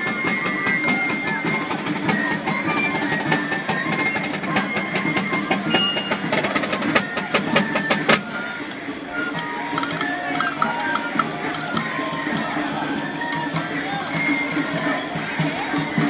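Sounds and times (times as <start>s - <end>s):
shrill pipe melody: 0.0s - 16.0s
steady drumbeats: 0.0s - 16.0s.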